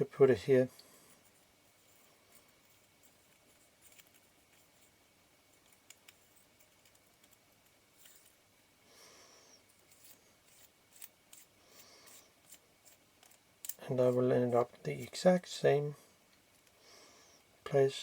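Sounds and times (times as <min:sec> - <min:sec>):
soft rustle: 0:00.6 - 0:16.8.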